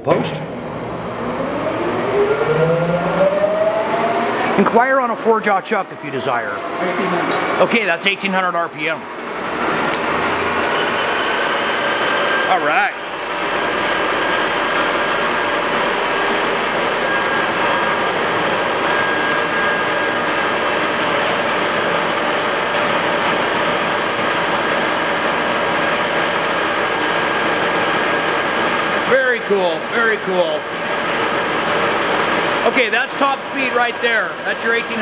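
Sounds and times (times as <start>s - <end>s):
lathe running: 0.0s - 35.0s.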